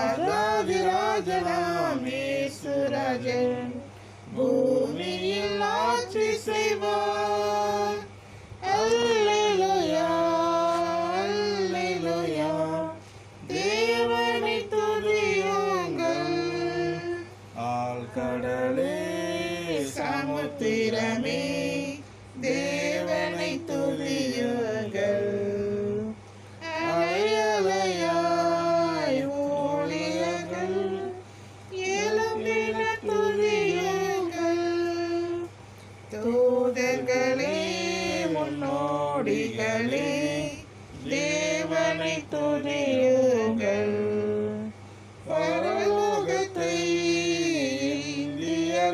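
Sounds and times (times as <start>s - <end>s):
group singing a praise song: 0.0s - 48.9s.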